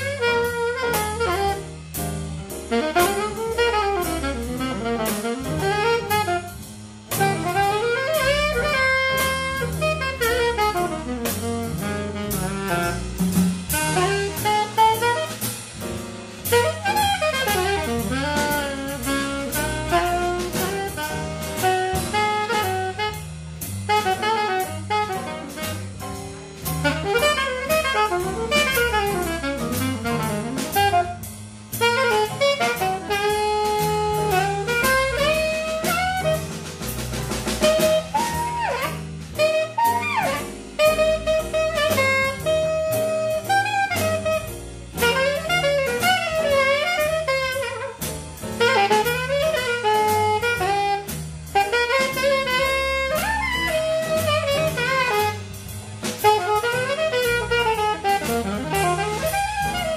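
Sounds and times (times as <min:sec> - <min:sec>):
double bass walking: 0:00.0 - 0:59.9
drum kit cymbals: 0:00.0 - 0:59.9
saxophone jazz solo: 0:00.0 - 0:59.9.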